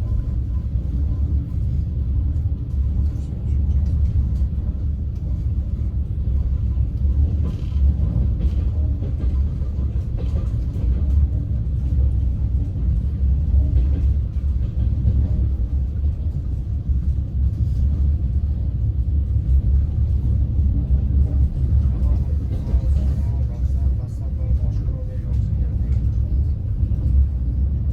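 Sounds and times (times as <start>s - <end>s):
train rumble from inside carriage: 0.0s - 27.9s.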